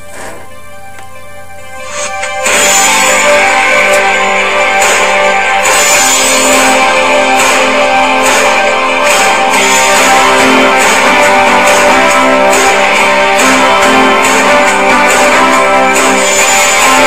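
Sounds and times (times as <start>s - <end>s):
strummed guitar music: 0.0s - 17.0s.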